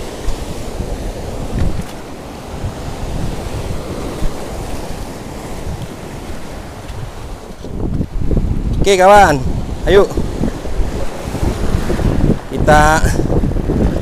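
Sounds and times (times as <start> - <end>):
sea waves breaking on rocks: 0.0 - 14.0
wind buffeting microphone: 0.0 - 14.0.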